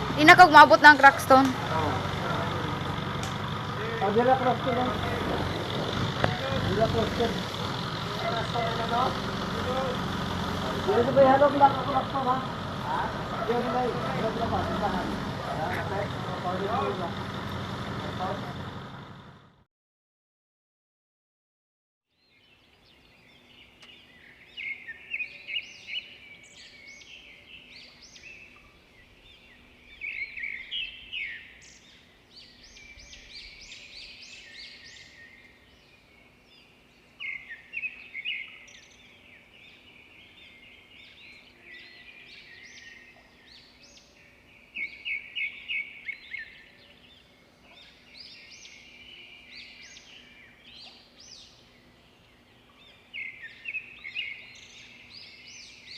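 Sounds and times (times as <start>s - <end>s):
birds chirping: 0.0s - 19.6s, 22.2s - 55.9s.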